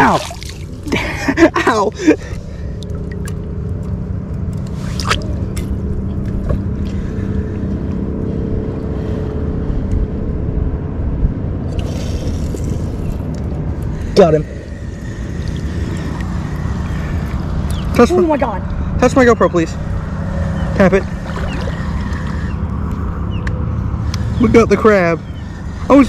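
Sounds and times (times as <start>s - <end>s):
low motor drone: 0.0s - 26.0s.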